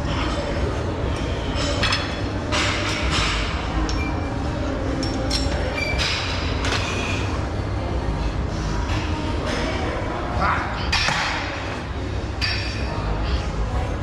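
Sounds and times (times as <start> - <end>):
gym ambience rumble: 0.0 - 14.0.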